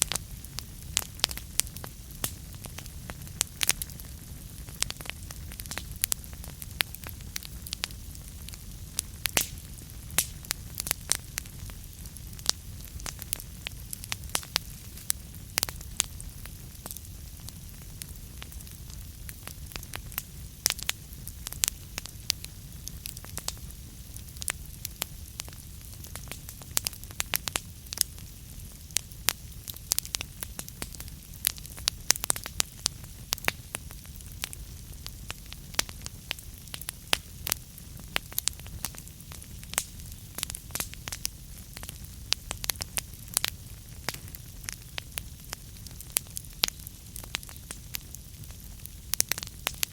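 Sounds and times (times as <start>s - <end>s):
fire flames rumbling: 0.0s - 49.9s
logs crackling and popping: 0.0s - 49.9s.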